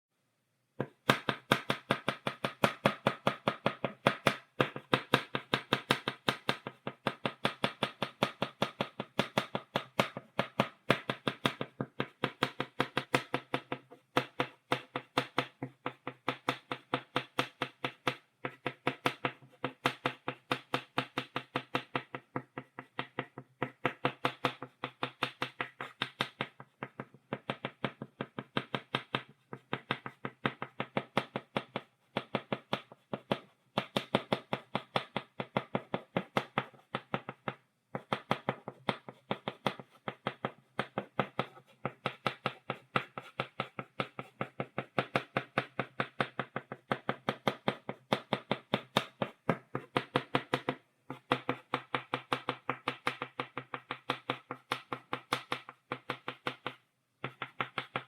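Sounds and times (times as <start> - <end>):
chalk tapping on a blackboard: 0.8 - 58.0.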